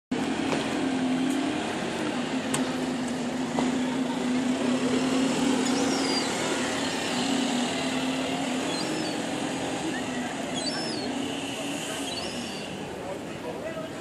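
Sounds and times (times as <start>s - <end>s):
bus engine droning: 0.1s - 14.0s.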